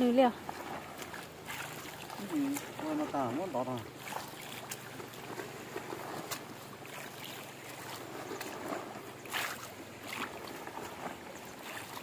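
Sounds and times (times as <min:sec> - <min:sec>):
boots sloshing through muddy water: 0:00.1 - 0:12.0.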